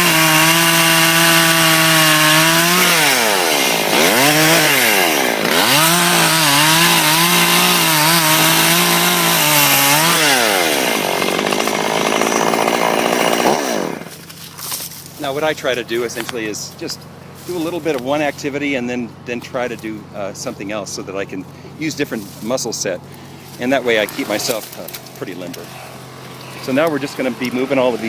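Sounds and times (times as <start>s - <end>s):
chainsaw cutting branches: 0.0s - 18.5s, 21.4s - 28.0s.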